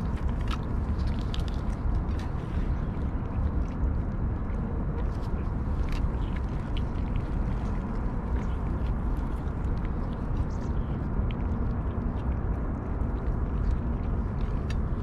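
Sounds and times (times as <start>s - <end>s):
cats chewing and licking: 0.0s - 15.0s
steady low rumble: 0.0s - 15.0s.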